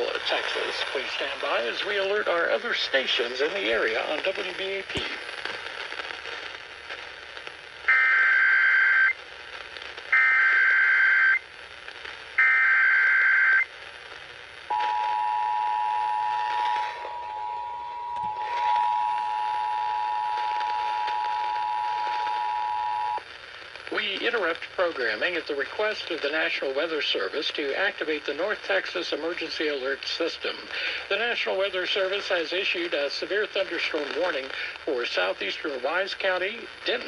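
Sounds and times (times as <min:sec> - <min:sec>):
faint hiss: 0:00.0 - 0:37.0.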